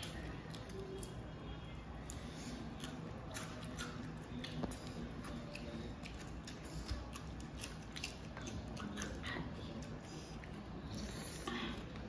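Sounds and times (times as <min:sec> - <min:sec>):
wet chewing and lip smacks: 0:00.0 - 0:01.3, 0:02.0 - 0:12.0.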